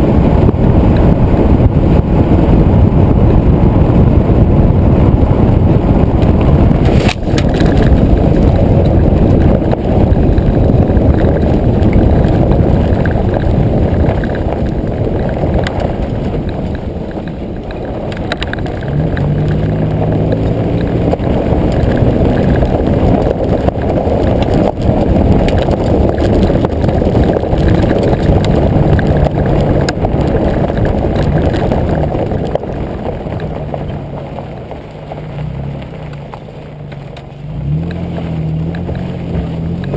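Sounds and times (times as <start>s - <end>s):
engine low hum: 0.0s - 39.9s
tyre and wind rumble: 0.0s - 39.9s.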